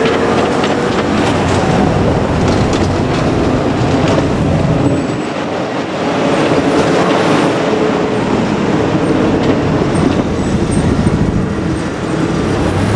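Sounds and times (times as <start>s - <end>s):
diesel railcar rumbling past: 0.0s - 12.9s
wheels clacking on rails: 0.0s - 12.9s.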